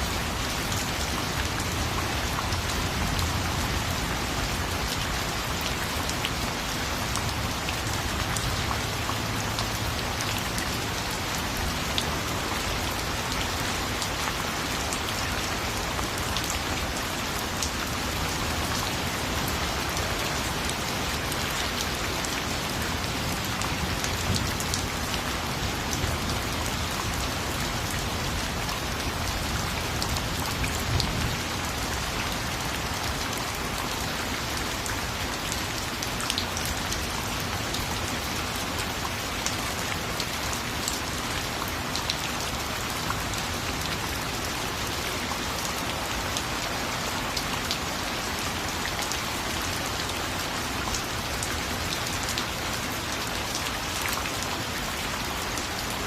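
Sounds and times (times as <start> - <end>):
steady rain with pattering drops: 0.0 - 56.0.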